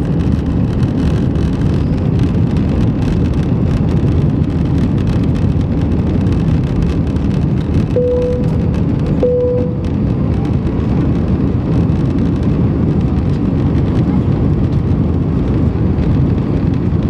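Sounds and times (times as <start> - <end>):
jet engines roaring in cabin: 0.0 - 17.0.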